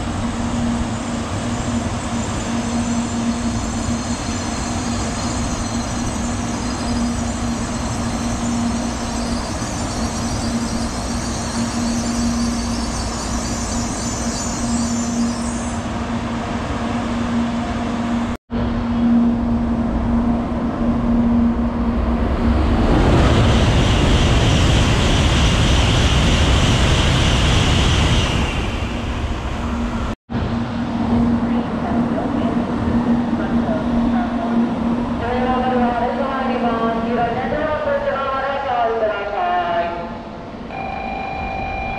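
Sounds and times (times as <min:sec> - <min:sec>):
train passing close by: 0:00.0 - 0:41.9.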